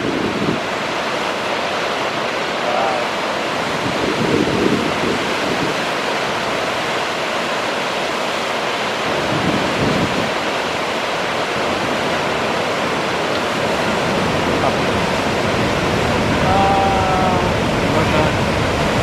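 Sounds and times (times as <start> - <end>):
whitewater rushing over rocks: 0.0 - 19.0.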